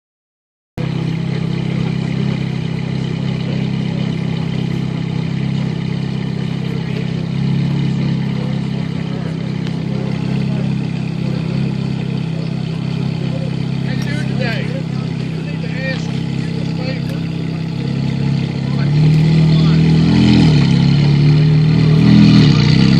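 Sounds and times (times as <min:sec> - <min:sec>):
car exhaust idling: 0:00.8 - 0:22.9.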